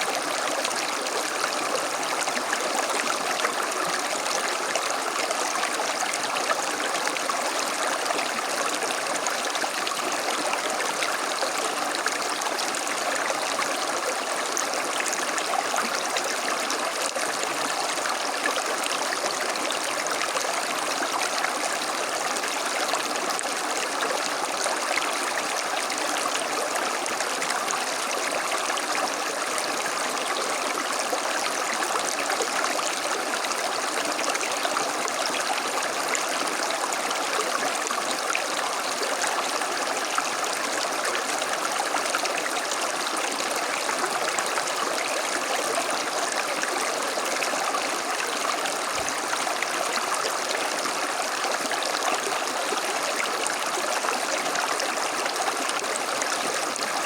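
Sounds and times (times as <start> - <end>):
creek flowing over stones: 0.0 - 57.0.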